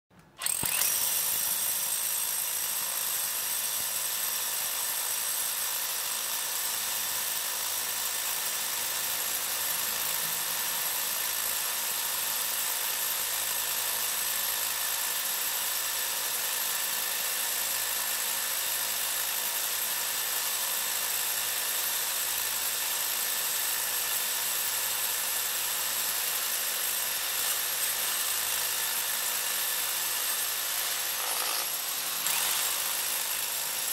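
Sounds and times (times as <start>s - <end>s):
rotary hammer drilling into concrete: 0.3s - 33.9s.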